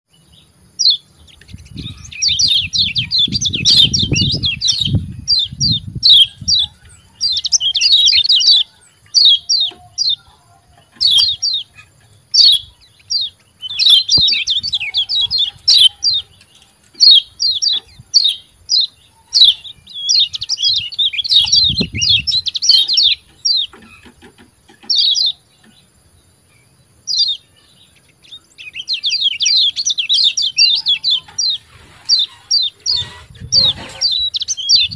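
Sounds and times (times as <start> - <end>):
bird chirping rapidly: 0.2 - 25.7, 27.0 - 34.9.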